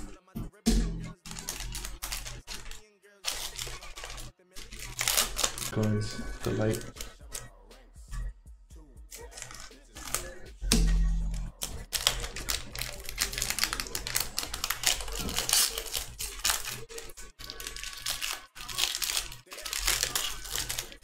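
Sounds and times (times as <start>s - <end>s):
cards clicking and crackling: 1.1s - 7.5s, 9.2s - 21.0s
foil pack tearing: 1.2s - 7.4s, 9.3s - 10.8s, 11.4s - 21.0s
wrapper crinkling: 1.2s - 7.5s, 9.2s - 10.4s, 11.3s - 21.0s.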